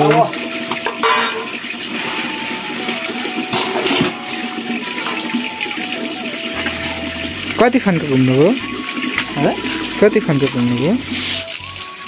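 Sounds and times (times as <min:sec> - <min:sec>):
liquid splashing and pouring: 0:00.0 - 0:12.0.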